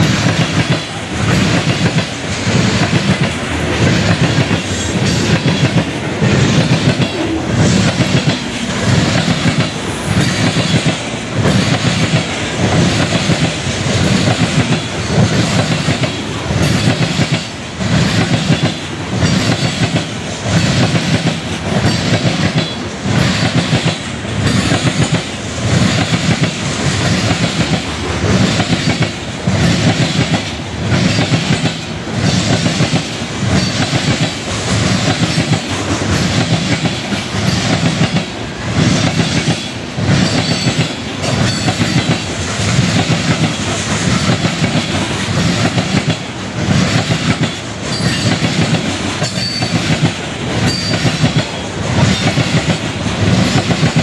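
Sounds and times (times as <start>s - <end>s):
continuous train rumble: 0.0s - 54.0s
train wheels clattering over rail joints: 0.0s - 54.0s.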